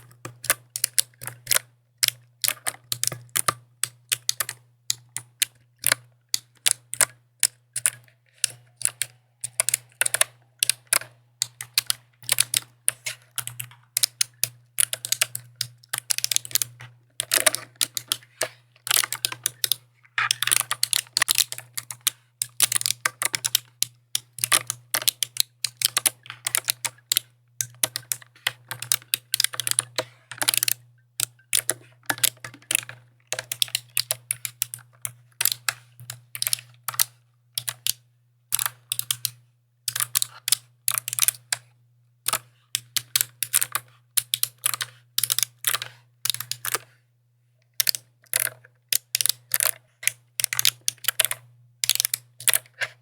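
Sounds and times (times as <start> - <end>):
mechanical keyboard typing: 0.0 - 46.9, 47.8 - 52.9.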